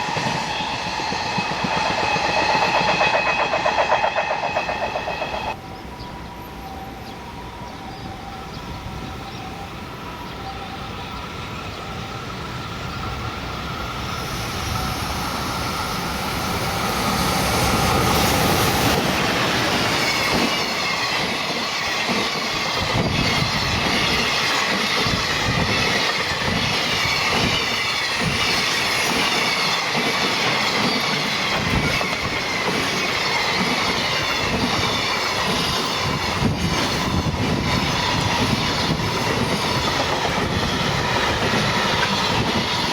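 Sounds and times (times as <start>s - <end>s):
freight train passing: 0.0s - 42.9s.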